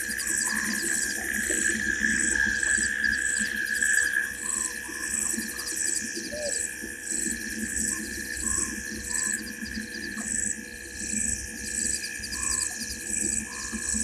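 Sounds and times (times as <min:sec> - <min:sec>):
insect chirping: 0:00.0 - 0:14.0
insect drone: 0:00.0 - 0:14.0
faint night animal calls: 0:00.2 - 0:07.2, 0:07.8 - 0:10.5, 0:11.8 - 0:14.0.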